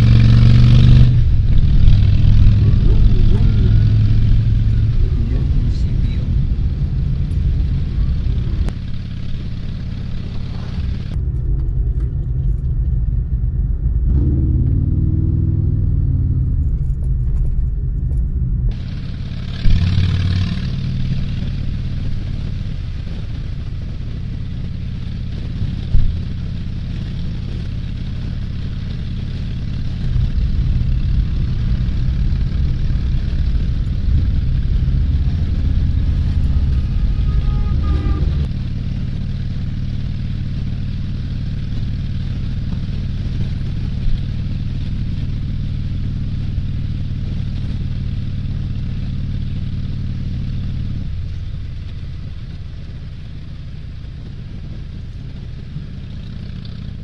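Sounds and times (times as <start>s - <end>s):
engine revving: 0.0s - 11.2s, 14.0s - 17.2s, 18.7s - 51.2s
engines idling in traffic: 0.0s - 57.0s.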